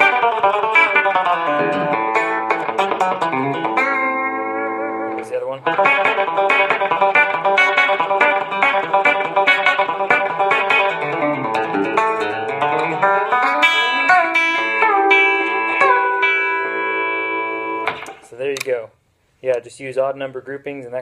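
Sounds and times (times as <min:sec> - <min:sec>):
electric guitar picking snappy notes: 0:00.0 - 0:18.7.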